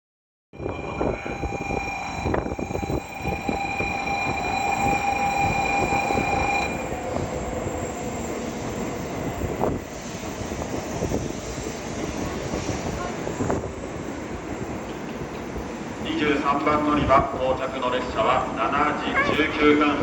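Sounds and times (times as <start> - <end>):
high train whine: 0.5 - 20.0
train rumble: 0.6 - 20.0.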